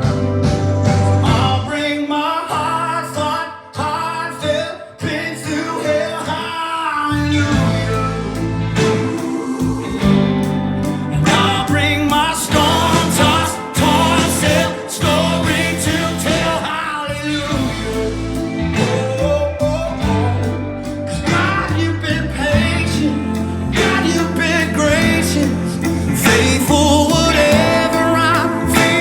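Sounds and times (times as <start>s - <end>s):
sustained bass notes: 0.0s - 1.8s, 7.2s - 29.0s
guitar: 0.0s - 29.0s
man singing: 1.2s - 10.3s, 11.2s - 29.0s.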